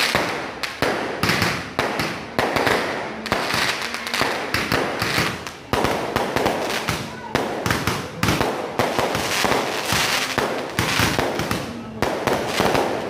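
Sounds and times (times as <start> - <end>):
fireworks bangs: 0.0 - 13.0
fireworks crackle and hiss: 0.0 - 13.0.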